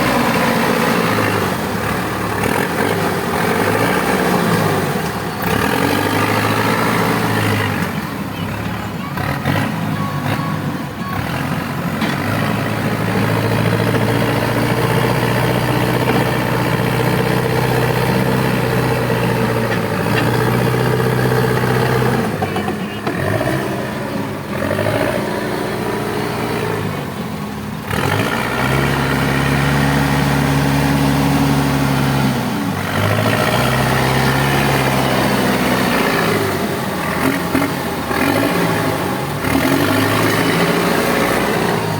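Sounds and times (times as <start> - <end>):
diesel engine running hard: 0.0 - 41.9.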